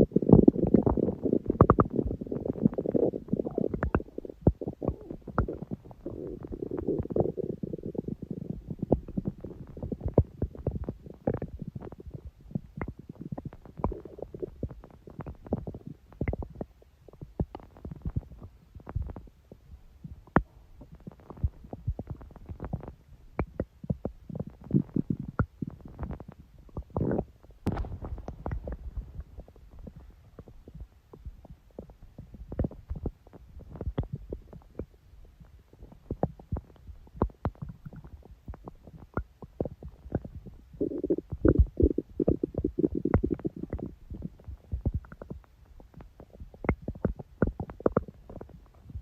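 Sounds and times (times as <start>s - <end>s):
stomach growling and gurgling: 0.0s - 49.0s.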